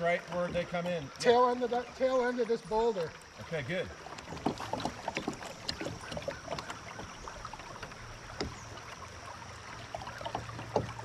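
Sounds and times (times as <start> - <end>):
water lapping against kayak hull: 0.0 - 11.0.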